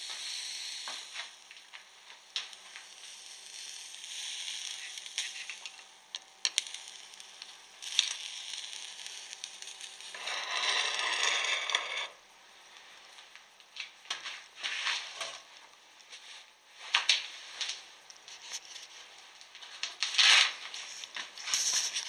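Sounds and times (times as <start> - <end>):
electric arc sizzling and crackling: 0.0 - 22.0.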